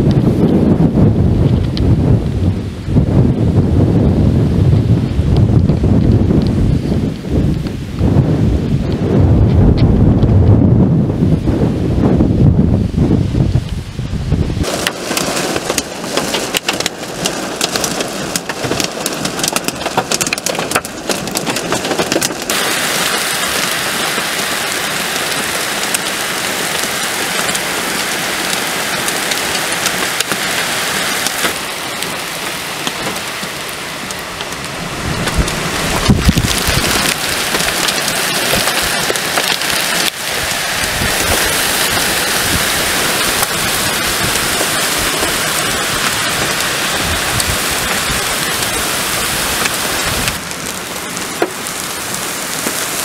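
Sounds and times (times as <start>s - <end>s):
low thunder rumble: 0.0s - 27.5s, 31.1s - 53.0s
heavy rain: 0.0s - 53.0s.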